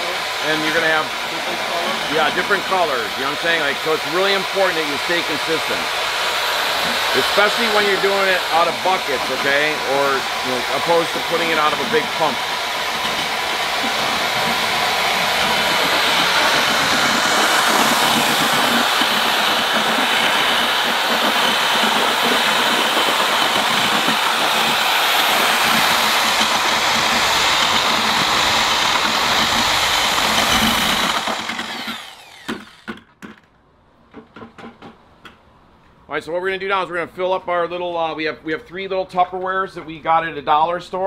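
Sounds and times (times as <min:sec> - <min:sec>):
paddle mixer stirring cement: 0:00.0 - 0:32.9.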